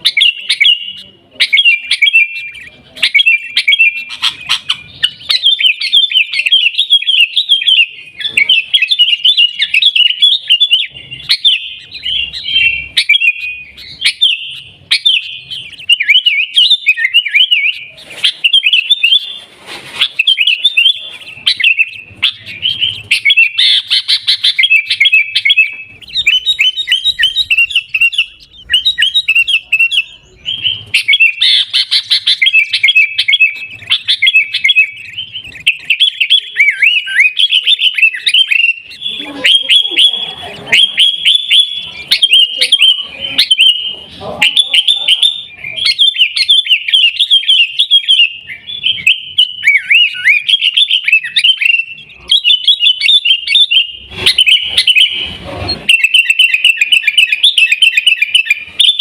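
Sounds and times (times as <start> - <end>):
bulbul chattering: 0.0 - 59.0.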